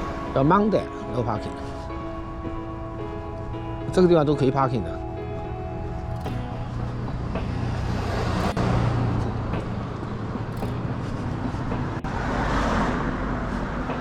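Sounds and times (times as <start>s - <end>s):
cars passing by: 0.0s - 14.0s.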